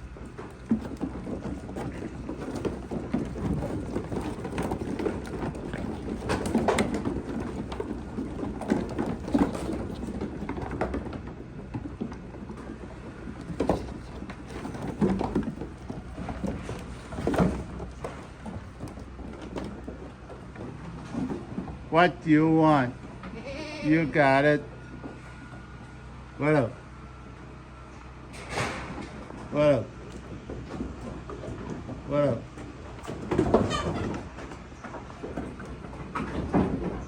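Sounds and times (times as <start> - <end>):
goats crunching feed: 0.0 - 21.9, 27.2 - 37.0.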